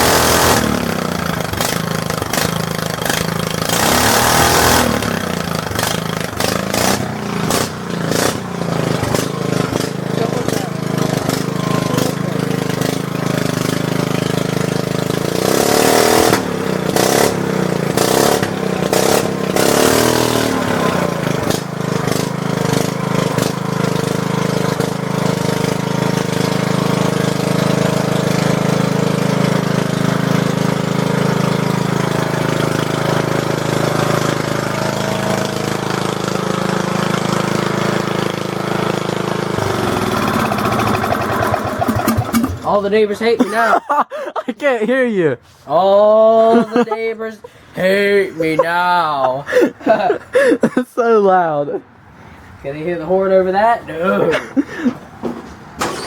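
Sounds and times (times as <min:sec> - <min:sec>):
lawn mower engine revving: 0:00.0 - 0:44.4, 0:45.5 - 0:50.8, 0:52.3 - 0:56.0.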